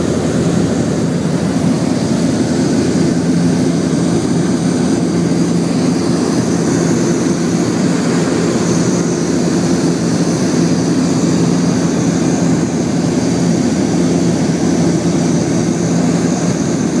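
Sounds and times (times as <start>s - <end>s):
propeller engine droning in cabin: 0.0s - 17.0s.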